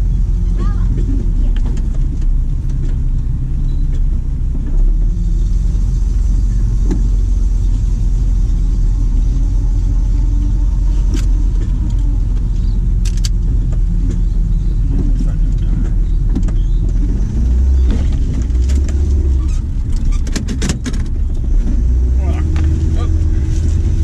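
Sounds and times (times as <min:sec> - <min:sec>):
car engine rumbling: 0:00.0 - 0:24.0.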